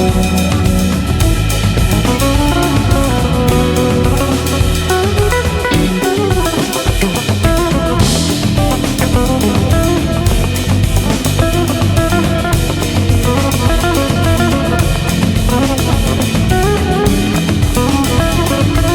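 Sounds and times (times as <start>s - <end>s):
drum kit beat: 0.0s - 18.9s
plucked guitar: 0.0s - 18.9s.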